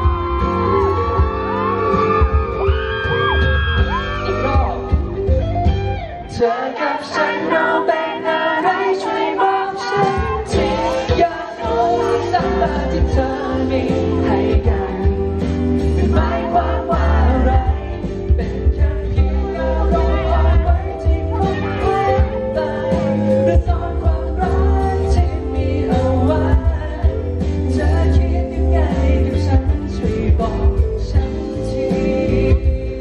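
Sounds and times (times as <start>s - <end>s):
backing music with guitar: 0.0s - 33.0s
man singing into microphone: 6.3s - 33.0s.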